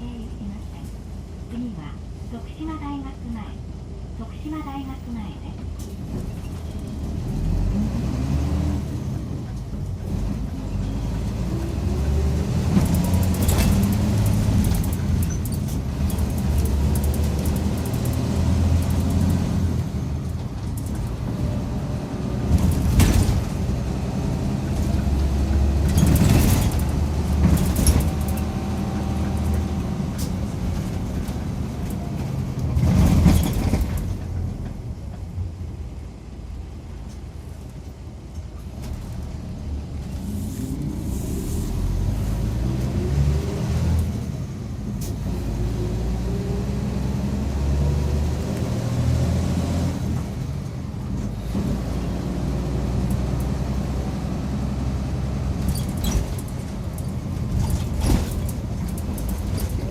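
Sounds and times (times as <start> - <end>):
bus diesel engine pulling: 3.7 - 59.9.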